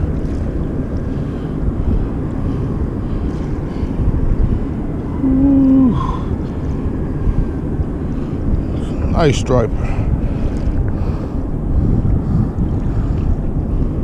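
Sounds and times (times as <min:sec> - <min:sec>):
low outdoor rumbling: 0:00.0 - 0:14.0.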